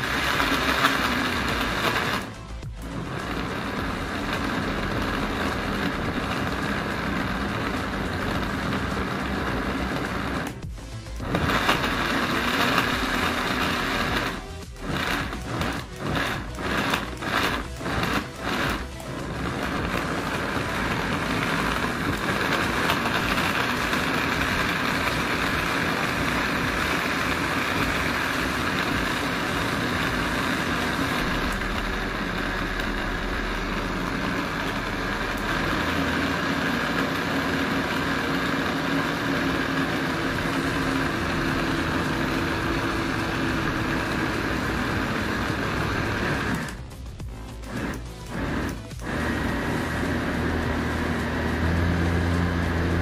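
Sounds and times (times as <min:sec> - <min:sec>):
blender blending: 0:00.0 - 0:53.0.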